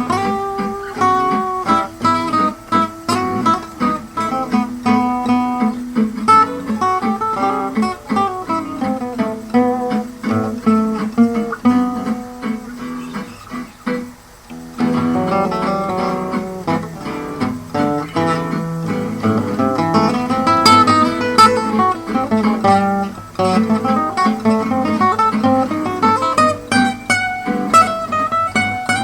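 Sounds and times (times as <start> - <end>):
acoustic guitar waltz: 0.0 - 29.0.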